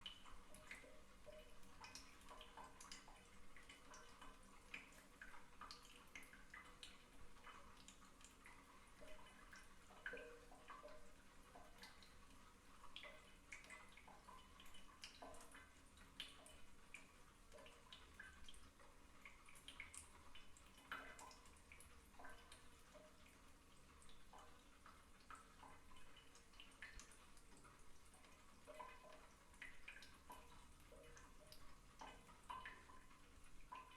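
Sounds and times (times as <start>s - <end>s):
faucet dripping: 0.0s - 33.9s.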